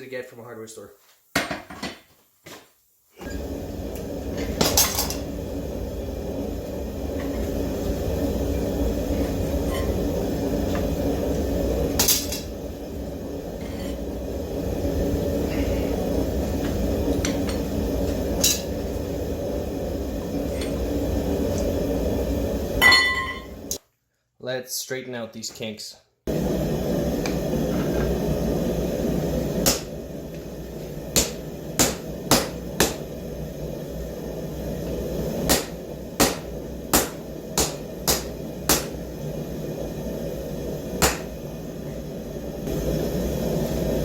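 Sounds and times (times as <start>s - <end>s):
steady low noise: 3.4s - 22.8s, 26.3s - 44.0s.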